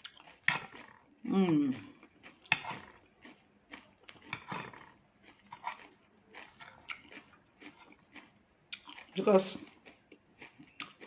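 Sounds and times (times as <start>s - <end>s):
chewing crunchy salad: 0.0s - 11.0s.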